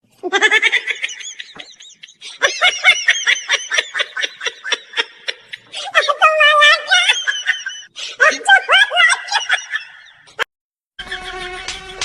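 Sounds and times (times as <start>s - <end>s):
high-pitched laughter: 0.2s - 12.0s.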